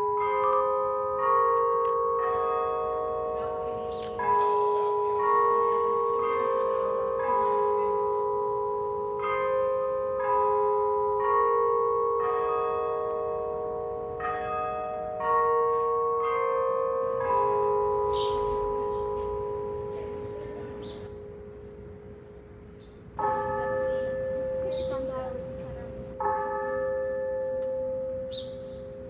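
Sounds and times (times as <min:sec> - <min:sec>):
tower bells chiming a tune: 0:00.0 - 0:29.0.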